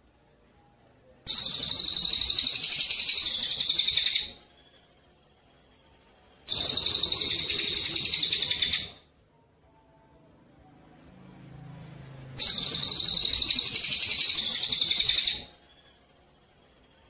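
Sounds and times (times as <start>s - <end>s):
songbird buzzy trill: 0.0s - 11.4s, 12.3s - 17.0s.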